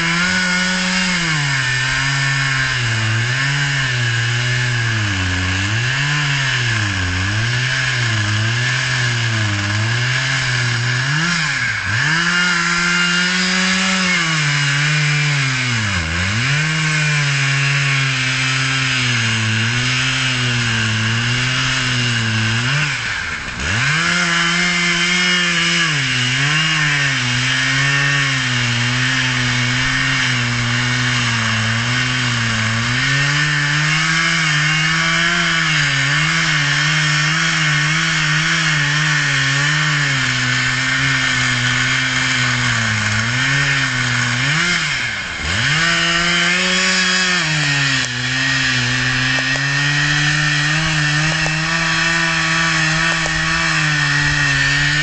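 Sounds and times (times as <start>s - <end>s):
chainsaw cutting tree trunk: 0.0s - 55.0s.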